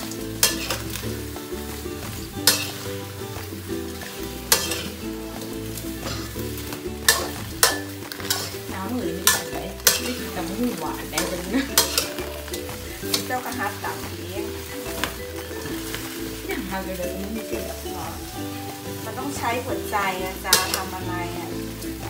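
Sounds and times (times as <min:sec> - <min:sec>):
shrimp sizzling in wok: 0:00.0 - 0:22.0
spatula scraping and knocking wok: 0:00.0 - 0:22.0.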